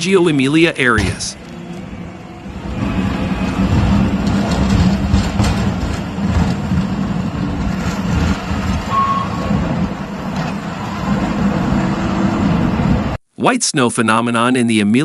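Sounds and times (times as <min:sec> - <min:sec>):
vehicle engine rumbling: 0:00.0 - 0:13.2.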